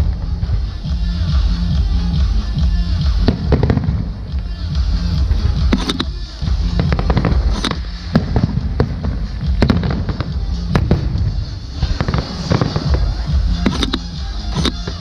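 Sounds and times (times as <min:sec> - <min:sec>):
fireworks bangs: 0:00.0 - 0:15.0
fireworks rumble and crackle: 0:00.0 - 0:15.0.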